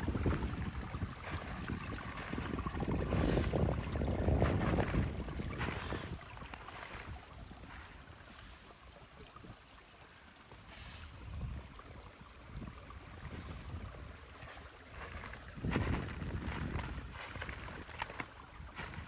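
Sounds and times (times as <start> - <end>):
wind buffeting microphone: 0.0 - 8.3, 10.8 - 19.0
stream running: 0.0 - 19.0.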